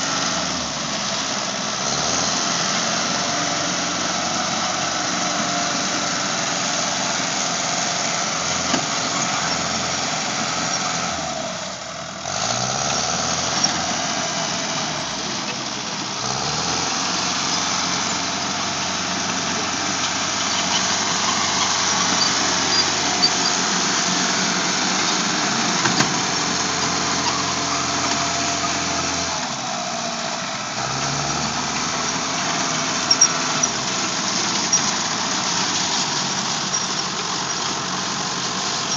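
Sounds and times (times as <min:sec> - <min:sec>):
vehicle engines revving: 0:00.0 - 0:38.9.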